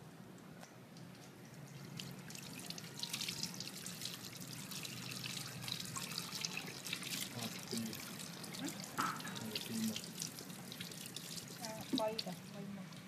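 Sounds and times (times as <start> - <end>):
tap water splashing: 1.0 - 12.4.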